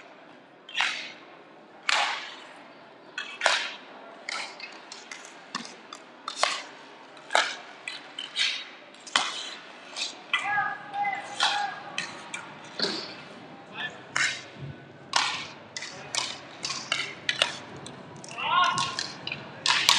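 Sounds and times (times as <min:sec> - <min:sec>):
hockey sticks and puck clacking: 0:00.0 - 0:19.9
low rink hiss: 0:00.2 - 0:19.9.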